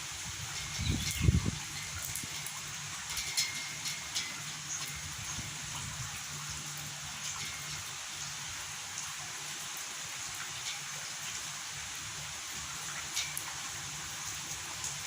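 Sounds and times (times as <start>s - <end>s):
raindrops tapping on a surface: 0.0s - 15.0s
steady rain hiss: 0.0s - 15.0s.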